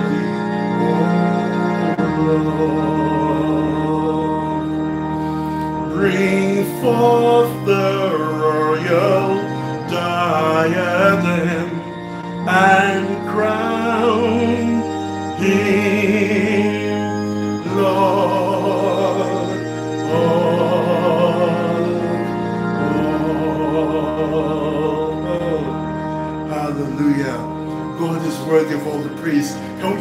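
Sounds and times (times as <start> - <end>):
electronic keyboard chords: 0.0 - 30.0
man singing worship song: 0.0 - 30.0.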